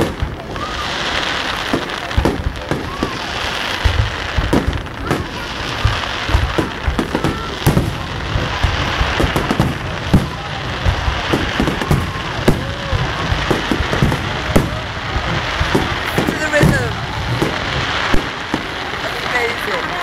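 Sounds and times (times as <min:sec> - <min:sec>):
firework shells bursting: 0:00.0 - 0:20.0.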